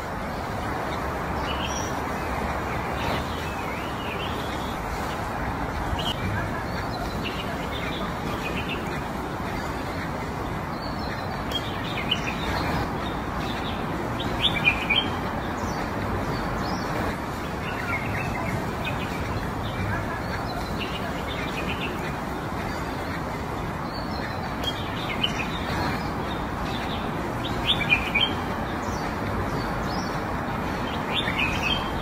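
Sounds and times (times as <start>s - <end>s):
small birds chirping: 0.0s - 32.0s
steady background hiss: 0.0s - 32.0s.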